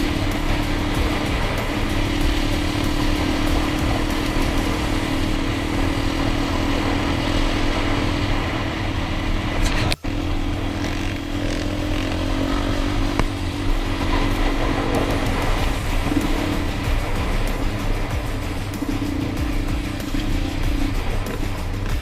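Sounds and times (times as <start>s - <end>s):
dirt bike engine running: 0.0s - 22.0s
road and wind noise: 0.0s - 22.0s.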